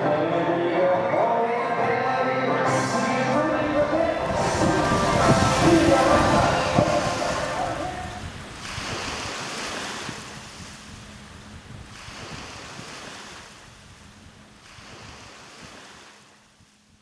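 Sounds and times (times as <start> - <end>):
rushing surf-like noise: 2.7 - 16.9.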